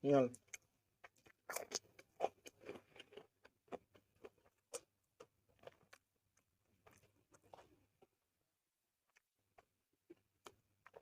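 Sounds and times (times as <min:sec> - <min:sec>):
person chewing food: 0:00.4 - 0:08.4, 0:09.0 - 0:11.0.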